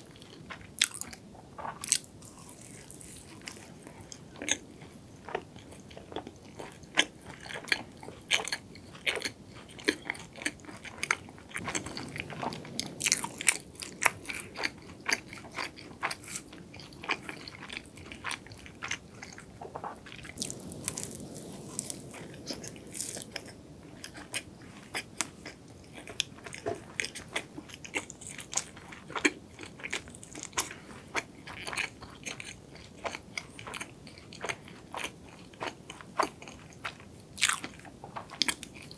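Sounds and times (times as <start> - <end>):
close chewing of pastry: 0.0 - 38.9.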